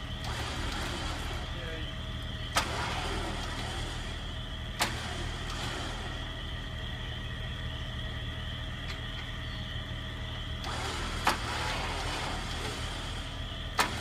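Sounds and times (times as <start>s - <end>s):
electric winch whining: 0.0s - 14.0s.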